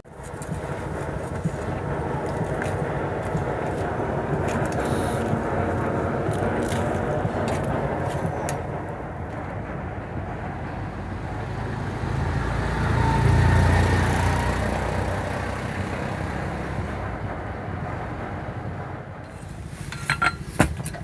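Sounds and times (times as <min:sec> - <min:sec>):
vehicle passing: 0:00.1 - 0:08.7, 0:10.5 - 0:20.2.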